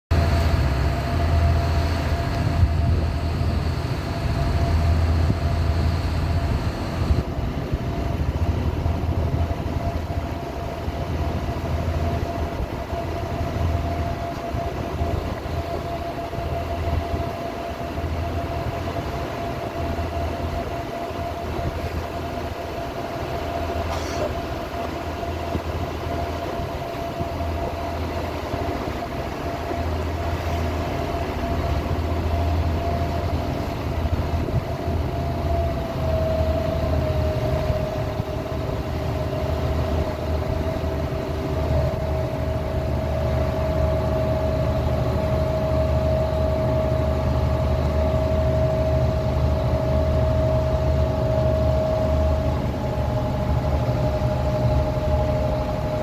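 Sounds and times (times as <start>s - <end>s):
boat engine throbbing drone: 0.1s - 56.0s
steady whine: 0.1s - 56.0s.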